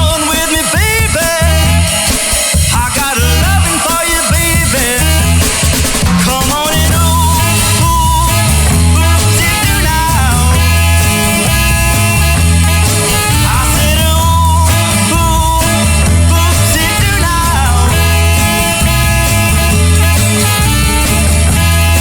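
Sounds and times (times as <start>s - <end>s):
person singing: 0.0s - 22.0s
rock band playing: 0.0s - 22.0s.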